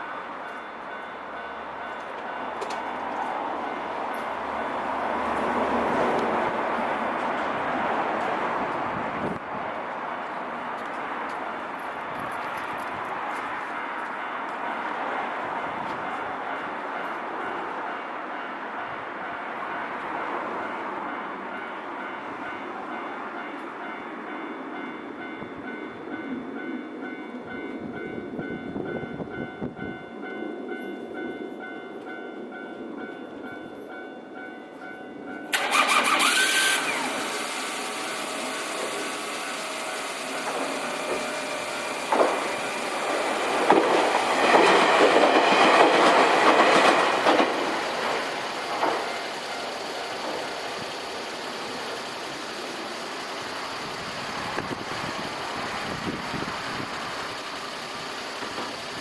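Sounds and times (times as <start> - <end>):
level crossing warning bell: 0.0 - 5.4, 11.8 - 35.7, 37.5 - 59.0
electric train running past: 0.0 - 59.0
train wheels on rails: 0.0 - 59.0.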